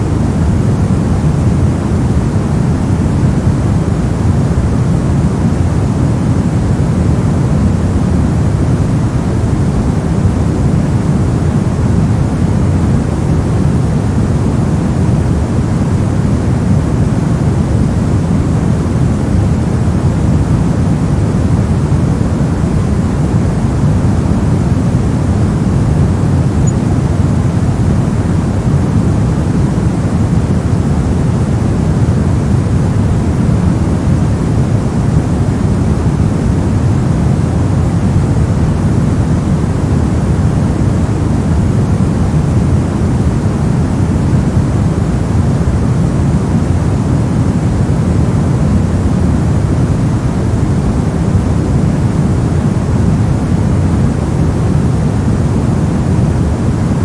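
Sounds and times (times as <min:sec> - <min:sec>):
white noise rush: 0:00.0 - 0:57.0.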